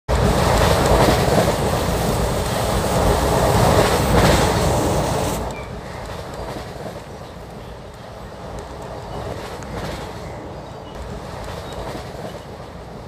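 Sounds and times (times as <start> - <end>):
train wheels rumbling on rails: 0.1 - 13.0.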